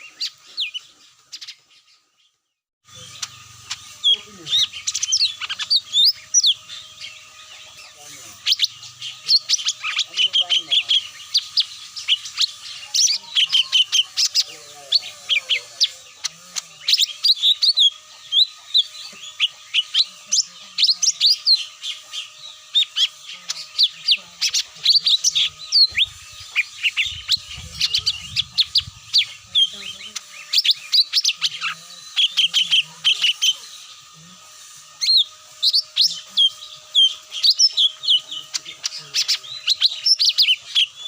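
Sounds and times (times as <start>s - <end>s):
birds chirping and twittering: 0.0s - 41.0s.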